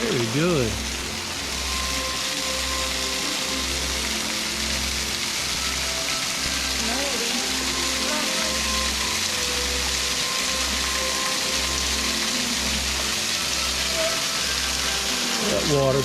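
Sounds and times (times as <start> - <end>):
waterfall splashing: 0.0 - 16.0.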